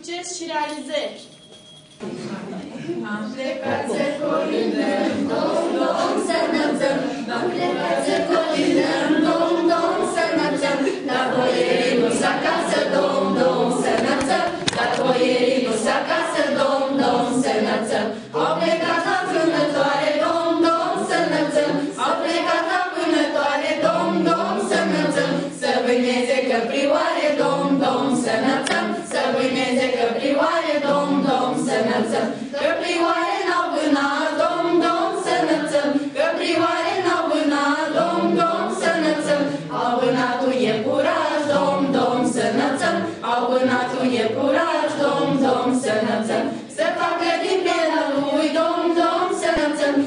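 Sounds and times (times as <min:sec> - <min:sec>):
group singing unaccompanied carol: 0:02.8 - 0:50.0.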